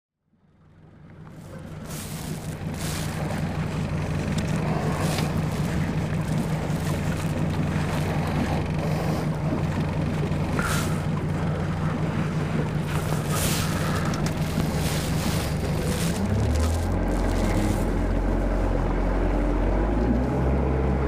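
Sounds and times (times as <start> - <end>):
boat motor running: 0.2 - 21.0
water splashes: 0.7 - 20.9.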